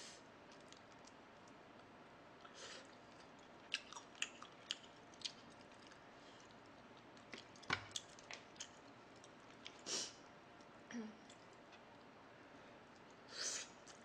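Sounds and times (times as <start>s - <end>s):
soft wet chewing: 0.4s - 12.1s, 12.9s - 14.0s.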